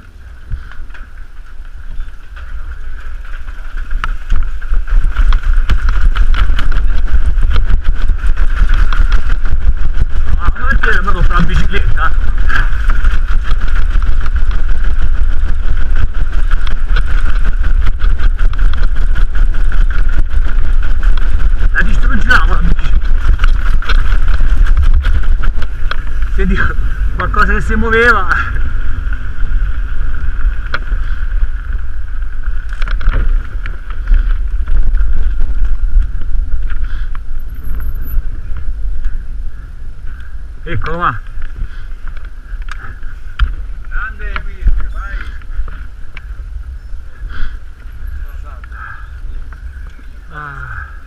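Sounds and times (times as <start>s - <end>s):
bike rattling over bumps: 0.0s - 51.0s
wind rumble on microphone: 0.0s - 51.0s.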